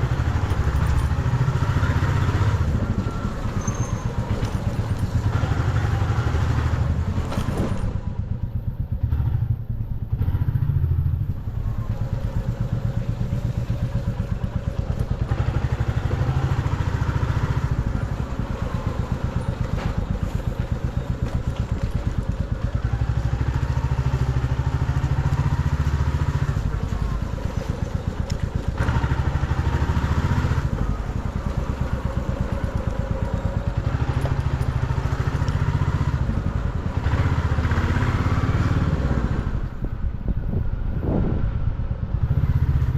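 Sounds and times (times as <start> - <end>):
motorcycle engine chugging: 0.0 - 40.4.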